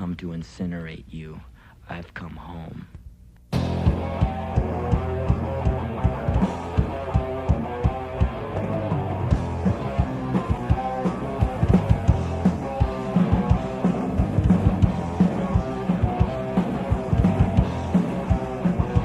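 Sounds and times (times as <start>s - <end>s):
bass guitar: 3.5s - 19.0s
distorted electric guitar: 3.5s - 19.0s
drum kit beat: 3.5s - 19.0s.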